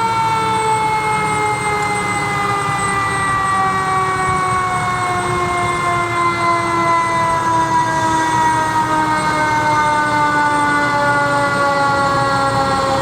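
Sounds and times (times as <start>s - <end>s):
mechanical siren winding down: 0.0s - 13.0s.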